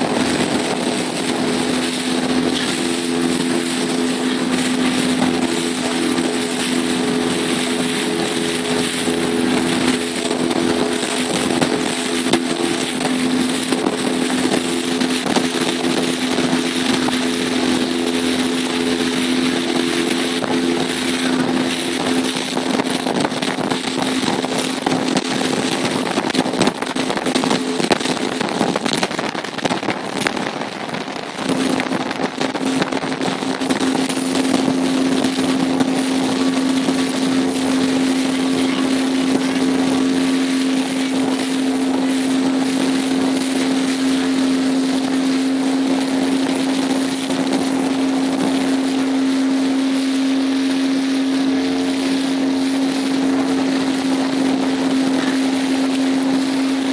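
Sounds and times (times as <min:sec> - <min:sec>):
motorboat engine humming: 0:00.0 - 0:56.9
water rushing past hull: 0:00.0 - 0:56.9
wind on microphone: 0:00.0 - 0:56.9.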